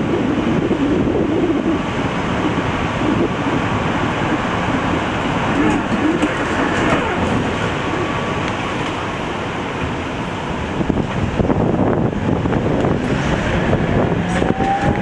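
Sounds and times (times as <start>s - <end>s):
tram clatter: 0.0s - 15.0s
tram running noise with hum: 0.0s - 15.0s.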